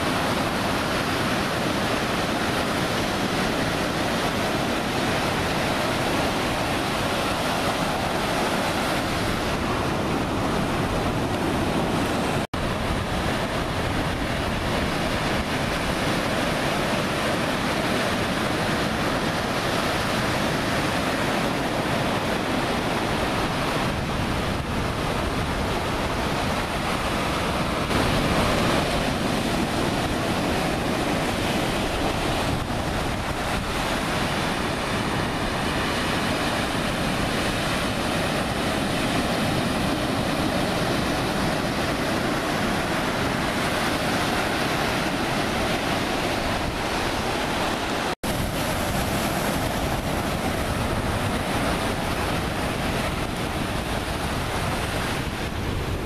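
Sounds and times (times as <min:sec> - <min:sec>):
ocean surf breaking: 0:00.0 - 0:56.0
wind rushing over microphone: 0:00.0 - 0:56.0.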